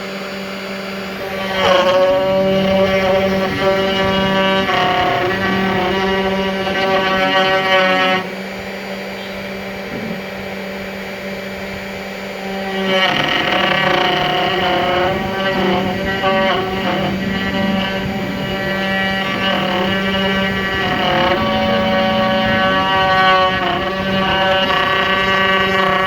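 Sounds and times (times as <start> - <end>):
cnc router running: 0.0 - 26.0.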